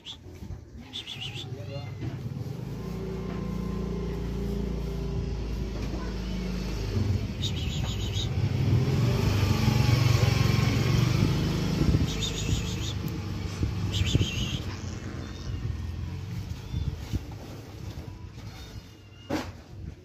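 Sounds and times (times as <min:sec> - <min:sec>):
vehicle engine running: 0:01.0 - 0:18.8.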